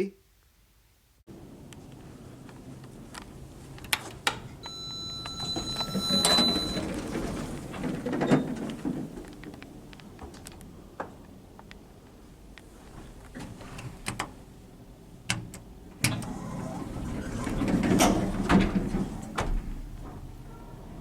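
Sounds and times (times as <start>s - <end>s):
lift doors and machinery sliding: 1.4s - 11.5s, 12.8s - 21.0s.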